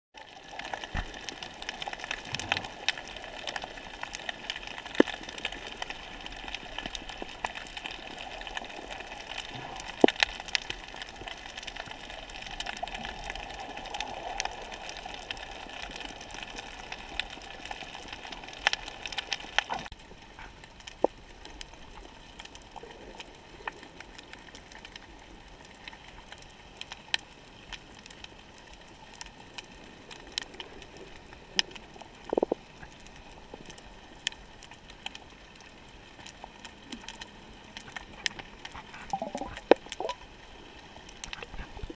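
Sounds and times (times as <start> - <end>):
sharp clicks and crackles: 0.2 - 41.9.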